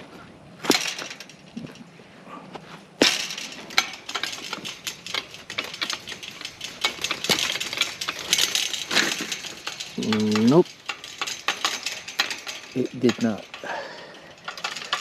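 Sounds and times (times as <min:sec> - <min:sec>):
metal gate clicking and rattling: 0:00.6 - 0:01.9, 0:03.0 - 0:15.0.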